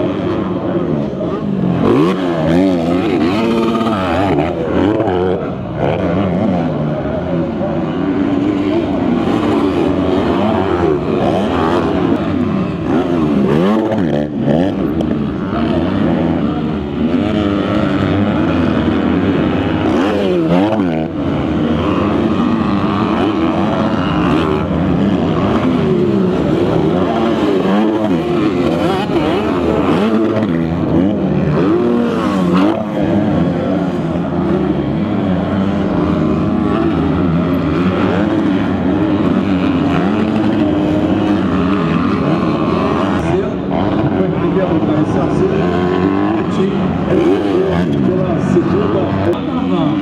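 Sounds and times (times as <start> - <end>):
motocross bikes revving: 0.0 - 50.0.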